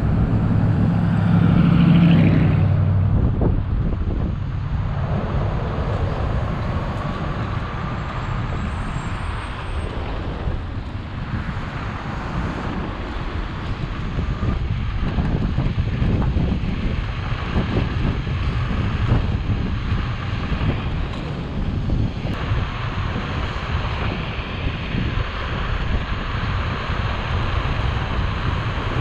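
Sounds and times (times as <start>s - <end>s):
road noise: 0.0s - 29.0s
wind on microphone: 0.0s - 29.0s.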